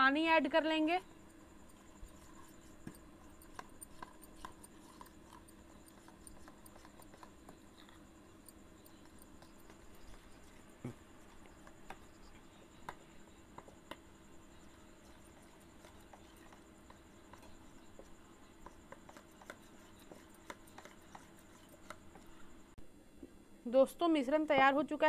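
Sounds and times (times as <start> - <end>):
spoon stirring batter in steel bowl: 1.1 - 22.7.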